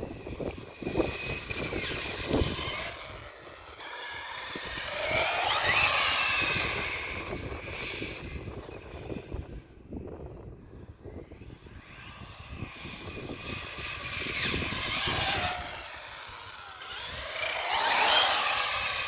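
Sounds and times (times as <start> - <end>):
rc buggy high-pitched motor passing: 0.0 - 19.0.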